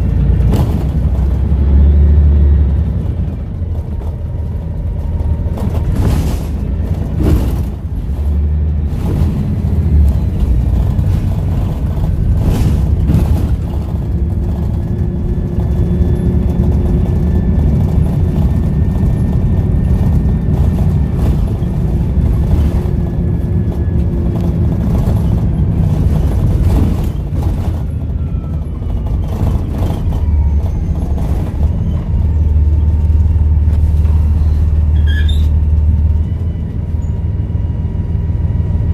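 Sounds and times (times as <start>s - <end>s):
bus diesel engine rumbling: 0.0s - 38.9s
knocks and rattles: 0.1s - 1.7s, 2.8s - 32.6s.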